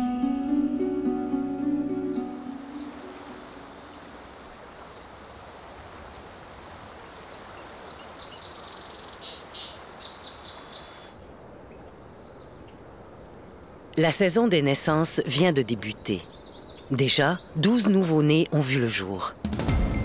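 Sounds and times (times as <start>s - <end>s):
outdoor background hiss: 0.0s - 20.0s
small birds chirping: 1.6s - 6.3s, 7.3s - 13.4s, 14.0s - 19.5s.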